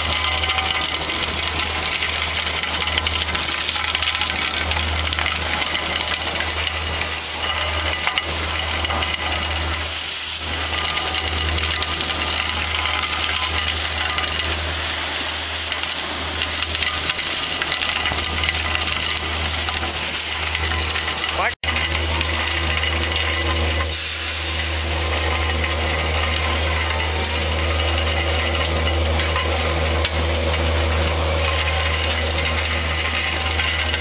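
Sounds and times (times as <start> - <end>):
track-cleaning machine running: 0.0 - 34.0.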